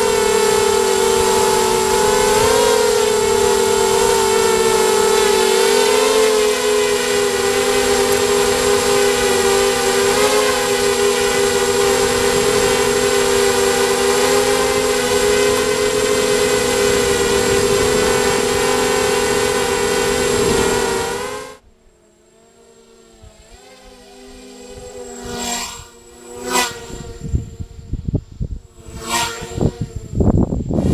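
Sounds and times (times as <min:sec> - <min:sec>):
drone motors whining: 0:00.0 - 0:30.9.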